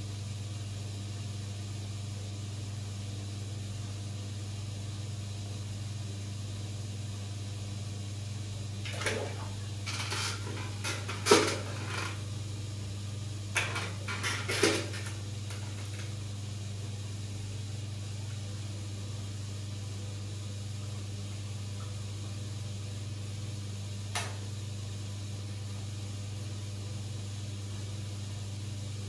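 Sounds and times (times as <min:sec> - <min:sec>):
aquarium pump hum: 0:00.0 - 0:29.0.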